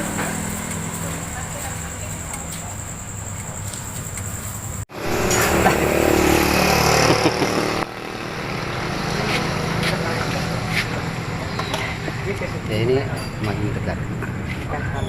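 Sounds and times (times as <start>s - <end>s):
vehicle engine running: 0.0s - 13.0s
street noise: 0.0s - 15.0s.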